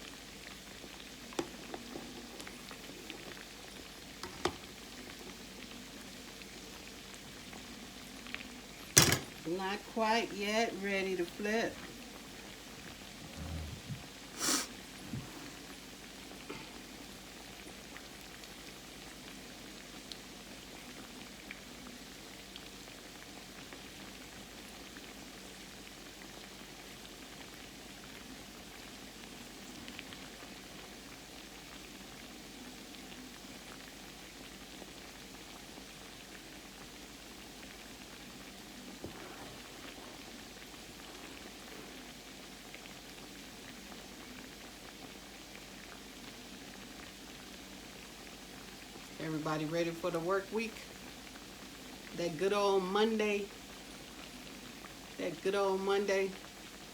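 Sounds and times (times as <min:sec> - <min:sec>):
croquettes sizzling in grease: 0:00.0 - 0:56.9.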